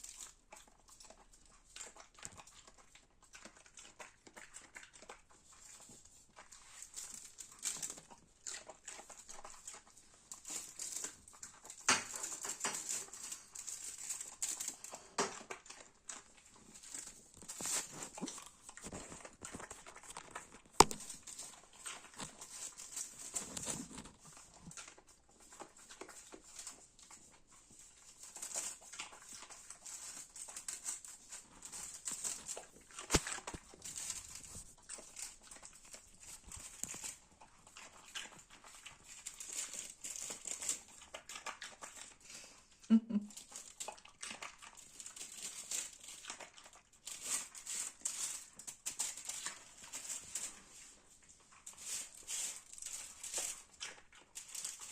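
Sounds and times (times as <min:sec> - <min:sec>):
dog chewing: 0:00.0 - 0:54.9.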